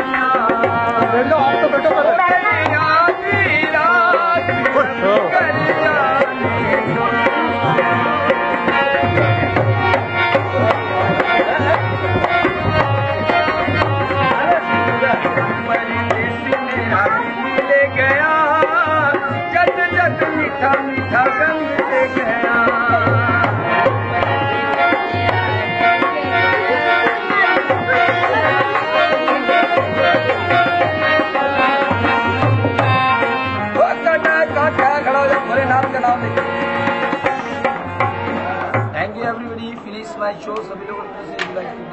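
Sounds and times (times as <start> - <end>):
hand drum rhythm: 0.0 - 40.7.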